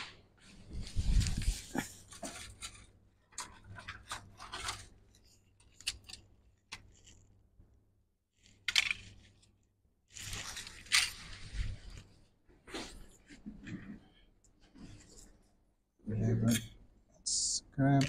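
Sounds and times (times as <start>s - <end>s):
rustling of parts: 0.0s - 7.6s, 8.3s - 15.6s.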